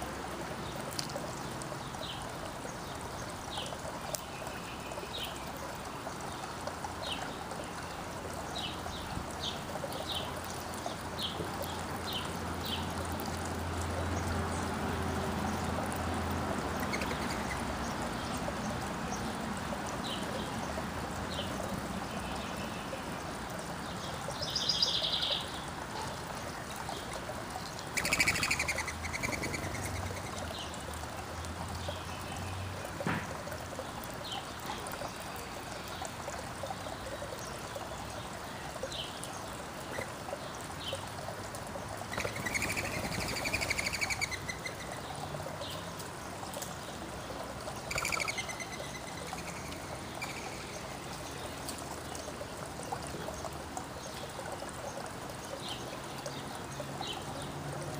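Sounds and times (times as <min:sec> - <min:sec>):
songbirds chirping: 0:00.0 - 0:57.9
steady outdoor hiss: 0:00.0 - 0:57.9.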